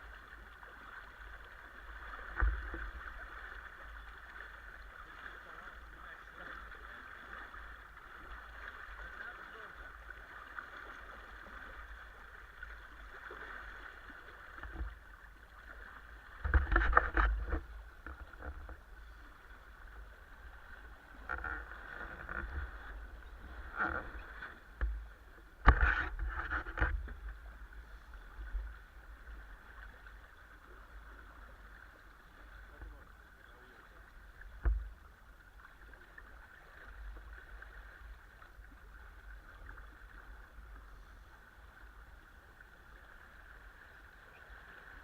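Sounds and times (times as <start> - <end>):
splashing and buffeting: 0.0 - 45.0
water rushing along boat hull: 0.0 - 45.0.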